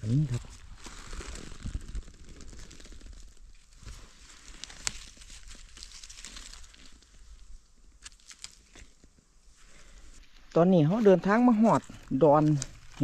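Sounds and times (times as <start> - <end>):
dry leaves rustling: 0.2 - 13.0.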